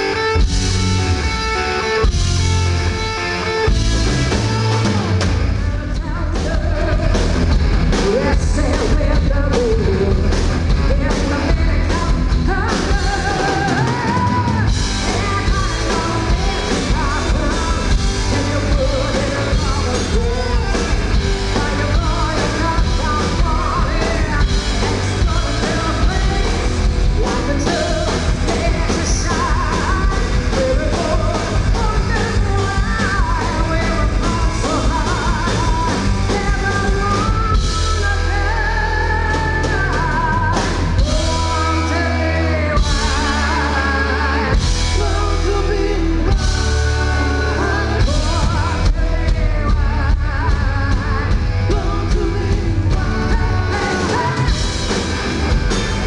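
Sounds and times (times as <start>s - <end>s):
drums: 0.0s - 56.0s
electric guitar: 0.0s - 56.0s
woman singing lead vocal: 1.8s - 55.2s.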